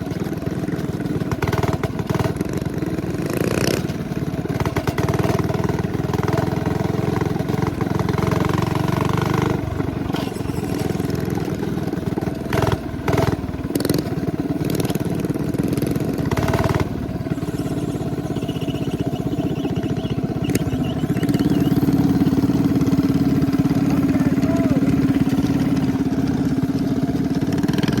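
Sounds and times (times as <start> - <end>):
minibike engine running: 0.0 - 28.0.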